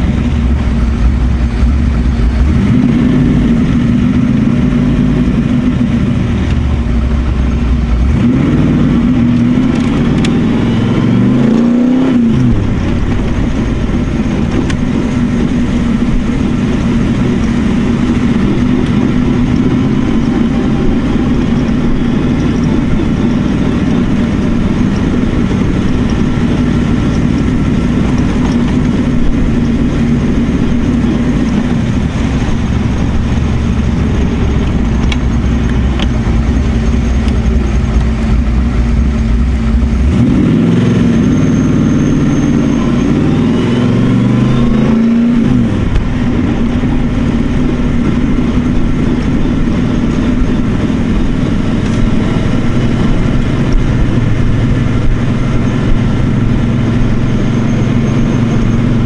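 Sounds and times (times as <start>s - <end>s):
car engine deep rumble: 0.0s - 59.0s
wind and road noise: 0.0s - 59.0s.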